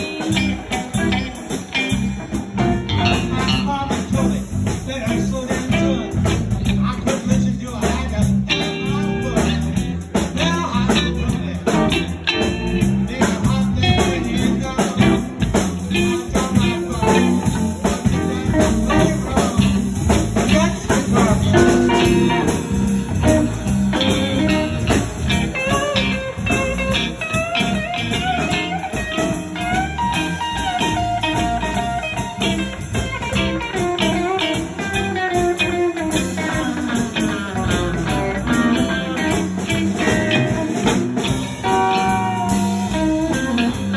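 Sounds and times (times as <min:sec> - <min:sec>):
drum kit: 0:00.0 - 0:43.9
electric bass: 0:00.0 - 0:43.9
electric guitar: 0:00.0 - 0:43.9.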